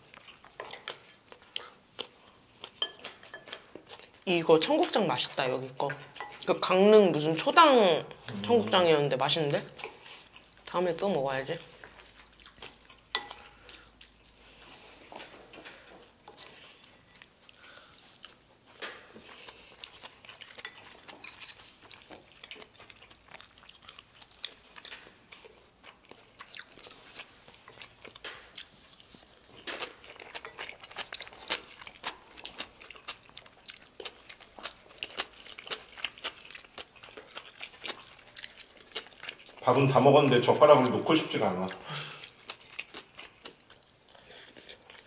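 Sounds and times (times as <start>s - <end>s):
chewing and mouth sounds: 0.0s - 6.5s, 9.4s - 39.7s, 41.5s - 45.0s.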